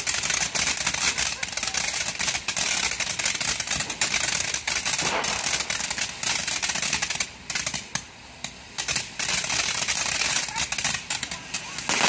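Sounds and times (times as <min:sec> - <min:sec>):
firework hissing and crackling: 0:00.0 - 0:12.0.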